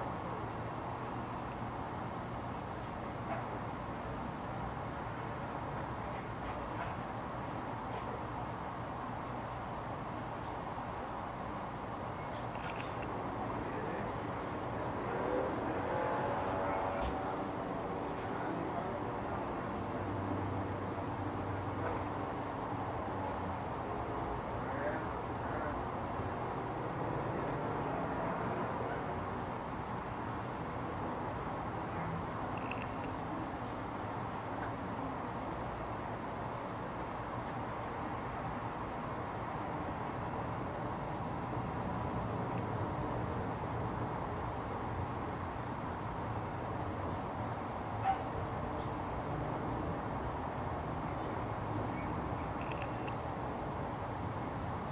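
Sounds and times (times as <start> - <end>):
high-pitched insect trill: 0.0 - 54.9.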